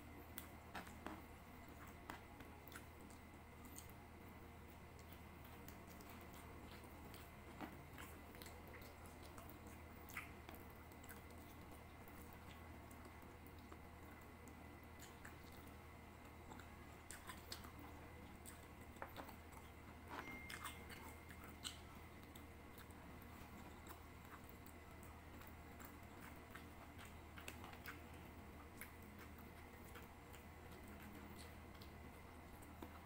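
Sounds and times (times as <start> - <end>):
close-miked chewing: 0.0 - 33.0.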